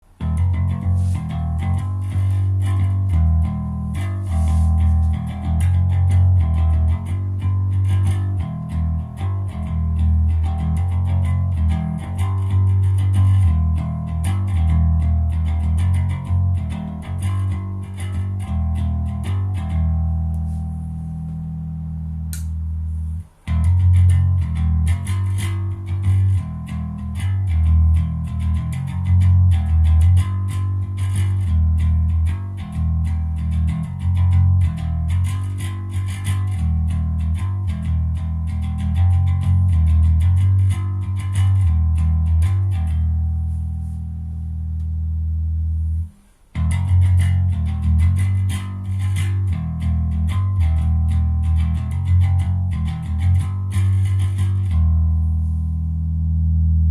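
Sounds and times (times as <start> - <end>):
electric bass guitar plucked notes: 0.0 - 56.9.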